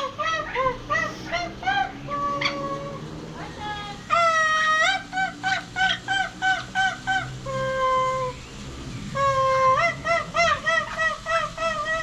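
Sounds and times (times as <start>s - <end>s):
parrot whistling: 0.0s - 3.0s, 4.0s - 12.0s.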